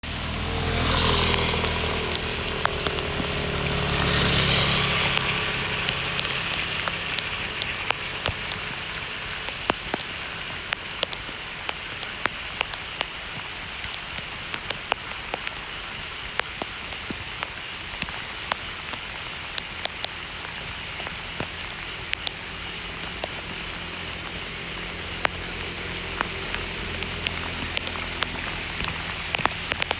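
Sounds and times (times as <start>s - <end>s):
heavy rain hissing: 0.0s - 29.9s
raindrops smacking a surface: 0.0s - 29.9s.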